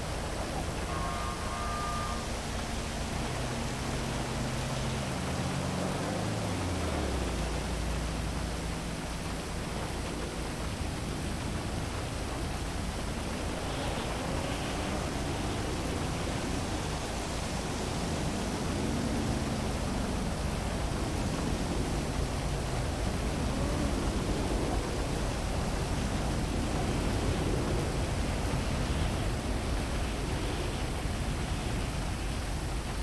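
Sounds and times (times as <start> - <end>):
faint low city rumble: 0.0 - 33.0
heavy rain falling: 0.0 - 33.0.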